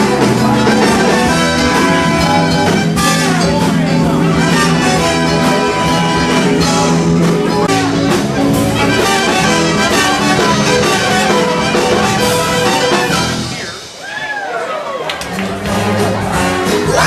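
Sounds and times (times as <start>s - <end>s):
live band playing instrumental: 0.0s - 17.0s.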